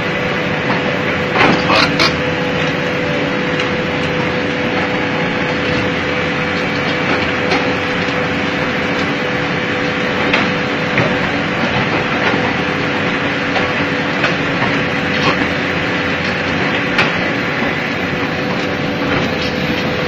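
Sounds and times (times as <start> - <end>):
excavator diesel engine: 0.0 - 20.0
hydraulic whine: 0.0 - 20.0.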